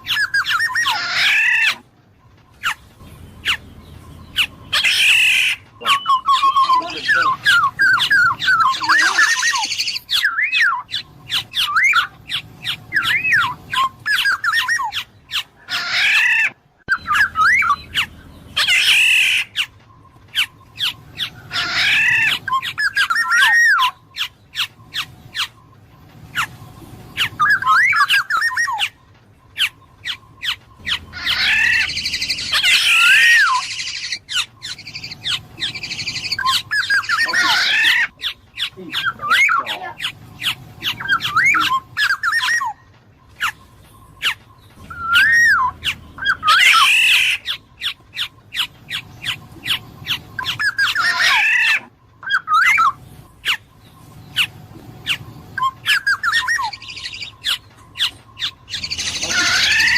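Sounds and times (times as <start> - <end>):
harsh raspy squawks: 0.0 - 1.9, 2.5 - 59.9
bird whistling calls: 0.0 - 59.9.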